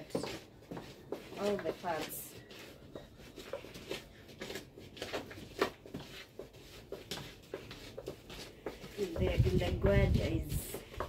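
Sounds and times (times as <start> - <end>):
wooden stick scraping inside gourd: 0.0 - 11.0.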